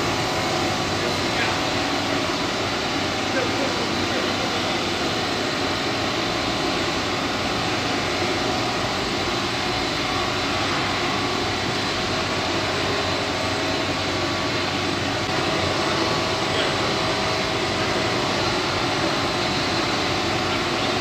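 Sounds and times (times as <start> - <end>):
machine mechanical drone: 0.0 - 21.0.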